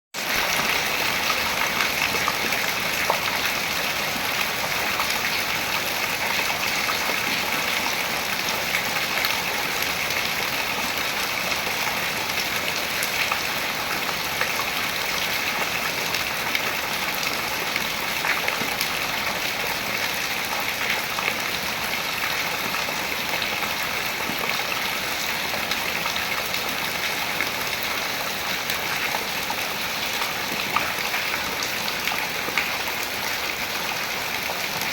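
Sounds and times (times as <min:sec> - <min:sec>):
rain falling on water: 0:00.2 - 0:34.9.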